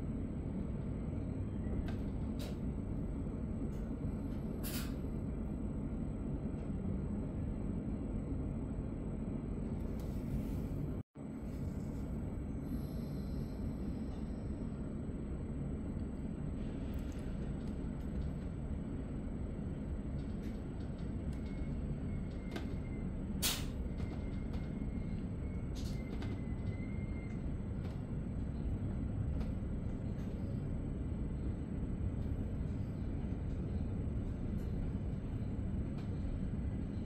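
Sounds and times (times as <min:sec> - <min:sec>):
train rumble inside coach: 0:00.0 - 0:37.0.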